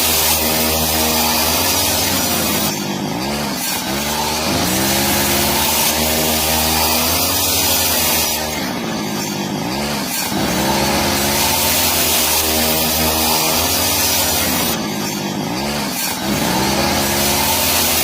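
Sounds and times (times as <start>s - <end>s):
power tool cutting wood: 0.0s - 18.0s.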